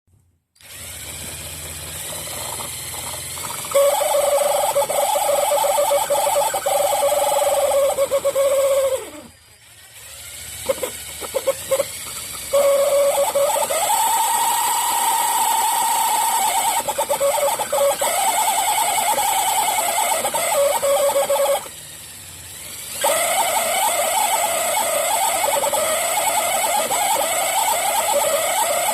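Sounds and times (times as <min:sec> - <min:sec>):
speedometer wavering squeal: 0:00.6 - 0:28.9.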